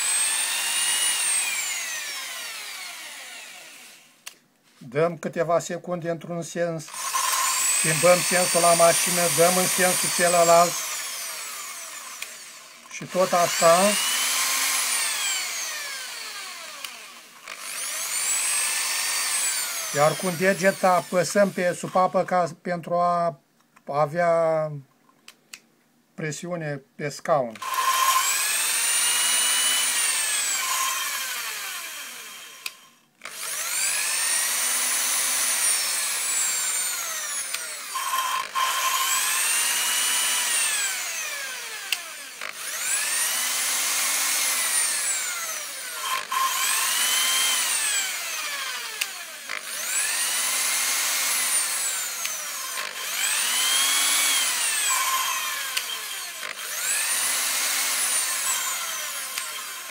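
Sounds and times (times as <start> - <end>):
electric drill spinning valve: 0.0 - 4.3, 6.9 - 22.2, 27.6 - 59.9.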